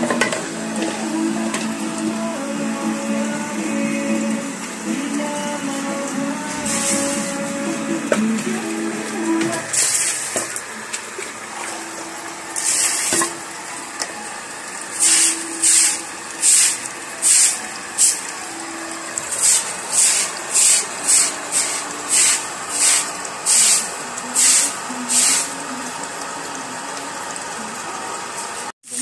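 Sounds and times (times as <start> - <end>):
water gushing into bucket: 0.0 - 29.0
water pump hum: 0.0 - 29.0.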